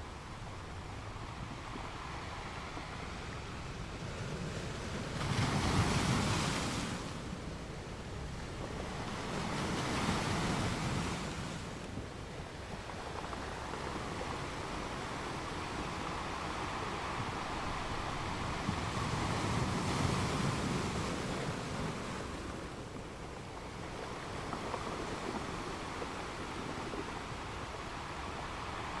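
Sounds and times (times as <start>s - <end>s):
ocean waves on a beach: 0.0s - 29.0s.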